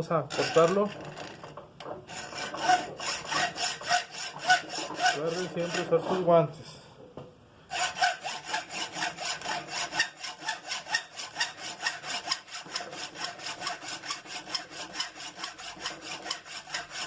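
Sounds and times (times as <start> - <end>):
hand saw cutting metal bar: 0.0 - 1.1, 2.1 - 6.3, 7.7 - 17.0.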